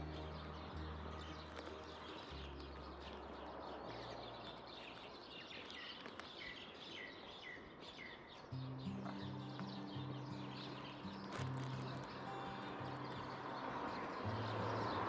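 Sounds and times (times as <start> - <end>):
bird chirping: 0.0 - 15.0
faint outdoor noise: 0.0 - 15.0.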